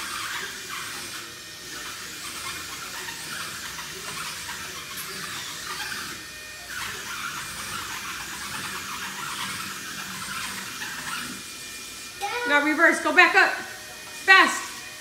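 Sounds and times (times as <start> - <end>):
remote-control car motor whir: 0.0 - 15.0.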